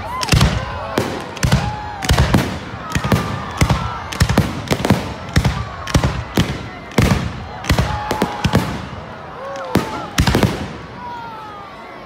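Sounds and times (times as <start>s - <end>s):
fireworks bangs: 0.0s - 11.2s.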